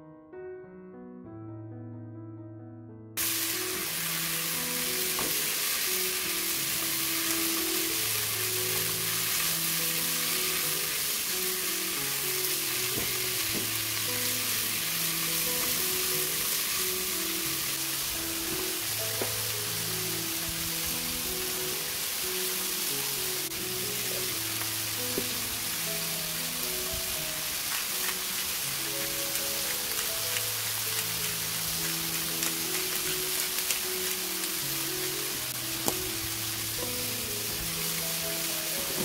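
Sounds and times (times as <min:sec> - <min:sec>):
soft piano music: 0:00.0 - 0:39.0
vegetables sizzling in hot oil: 0:03.2 - 0:39.0.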